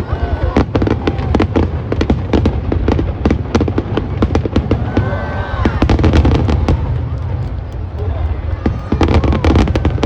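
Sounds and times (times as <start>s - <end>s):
fireworks crackling bangs: 0.0s - 10.0s.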